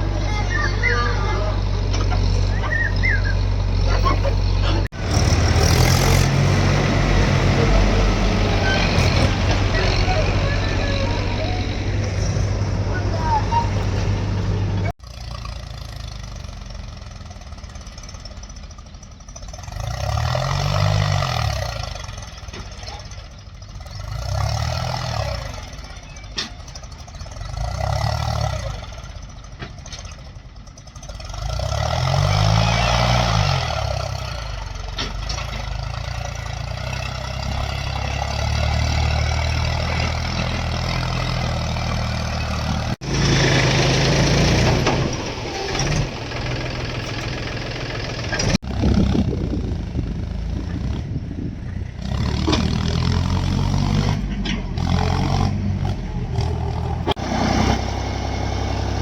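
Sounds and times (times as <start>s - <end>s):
diesel engine idling and revving: 0.0s - 59.0s.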